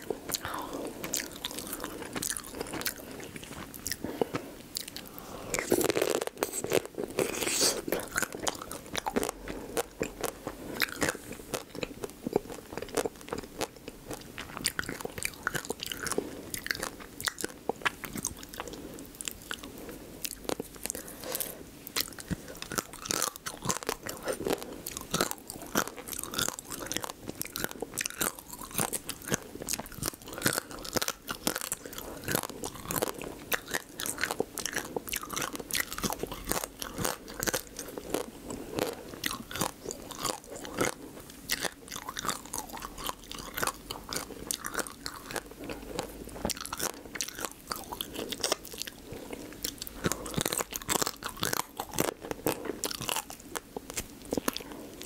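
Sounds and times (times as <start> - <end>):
crab shell crunching and chewing: 0.0 - 55.0.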